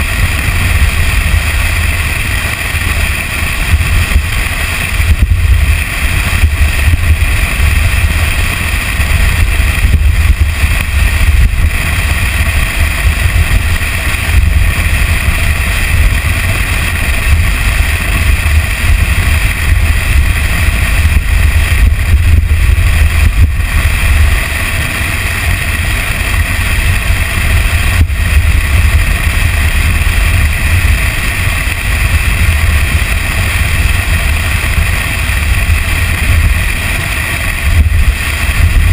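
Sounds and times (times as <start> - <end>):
pickup truck driving on dirt trail: 0.0 - 38.9.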